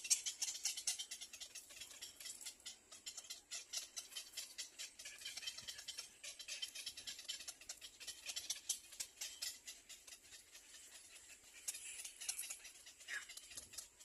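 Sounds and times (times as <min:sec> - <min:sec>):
nestling birds chirping: 0:00.0 - 0:14.0.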